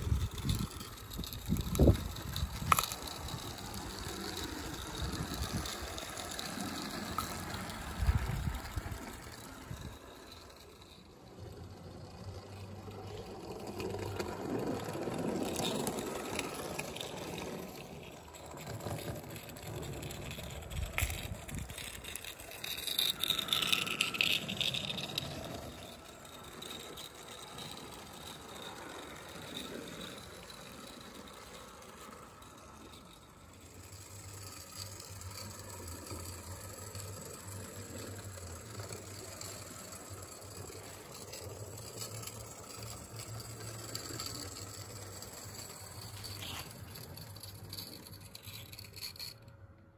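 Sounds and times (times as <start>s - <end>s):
model steam locomotive running: 0.0s - 49.9s
small wagons rattling over rails: 0.0s - 49.9s.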